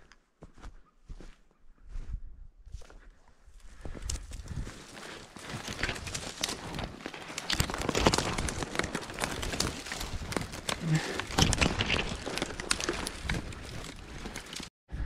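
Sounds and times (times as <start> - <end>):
footsteps crunching in snow: 0.0 - 14.7.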